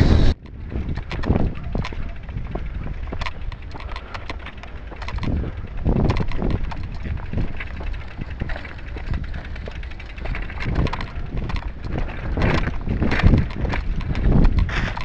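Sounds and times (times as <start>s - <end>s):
bicycle knocking while pushed: 0.4s - 15.0s.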